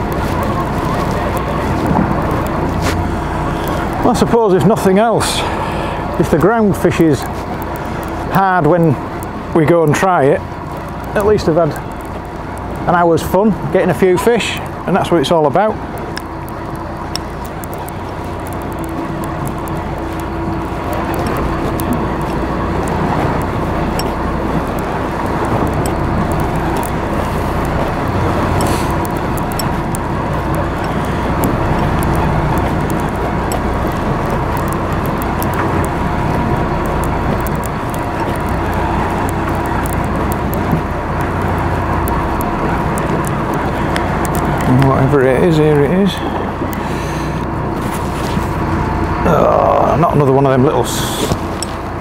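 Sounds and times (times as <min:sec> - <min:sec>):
boat engine running: 0:00.0 - 0:52.0
sea wash: 0:00.0 - 0:52.0
wind: 0:00.0 - 0:52.0.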